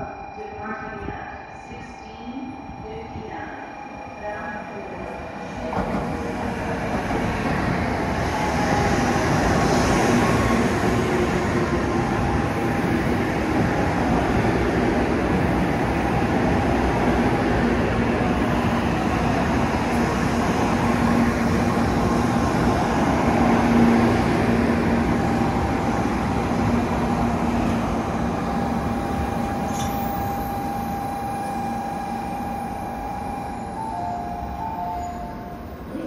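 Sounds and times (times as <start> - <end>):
train rumbling past platform: 0.0 - 36.0.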